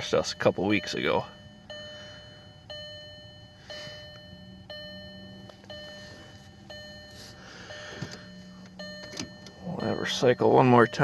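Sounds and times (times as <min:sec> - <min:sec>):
dashboard warning chime dinging: 0:00.0 - 0:11.0
faint steady hum: 0:00.0 - 0:11.0.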